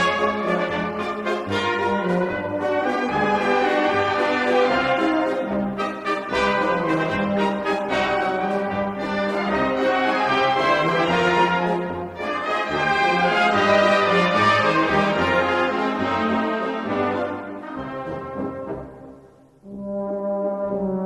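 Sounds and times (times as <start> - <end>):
brass instrumental music: 0.0 - 21.0.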